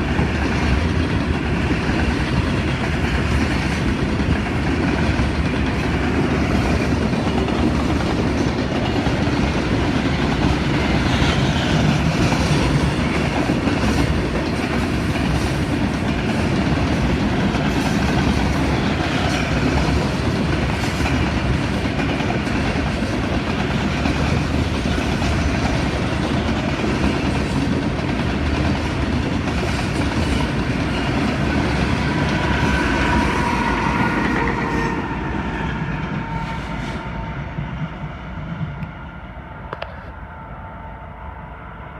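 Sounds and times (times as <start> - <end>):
freight train rumble: 0.0 - 41.9.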